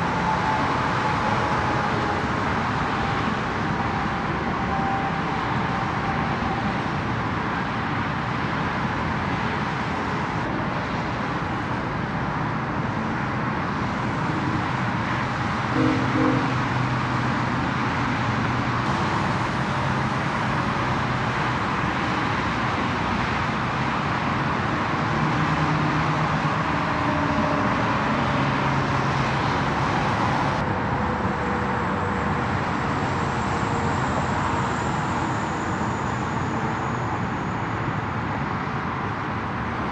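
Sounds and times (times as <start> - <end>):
freeway traffic rushing: 0.0 - 39.9.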